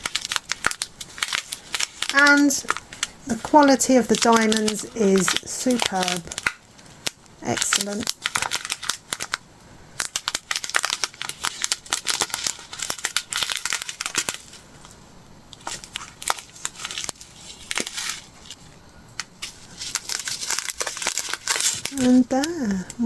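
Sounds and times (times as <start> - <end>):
plastic bags crinkling: 0.0 - 9.4, 10.0 - 23.0.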